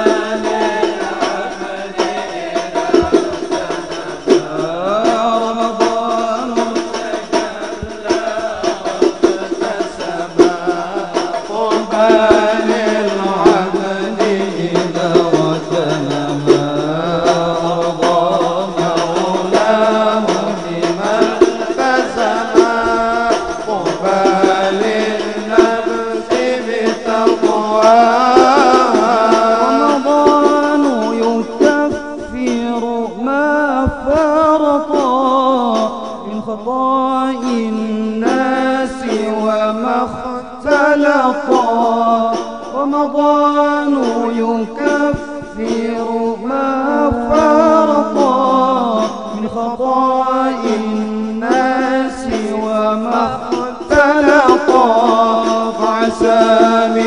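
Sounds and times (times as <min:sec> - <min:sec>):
person singing devotional song: 0:00.0 - 0:57.0.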